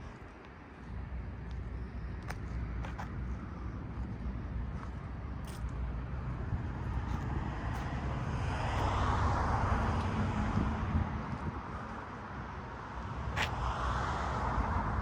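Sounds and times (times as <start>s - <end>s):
traffic low rumble: 0.0s - 15.0s.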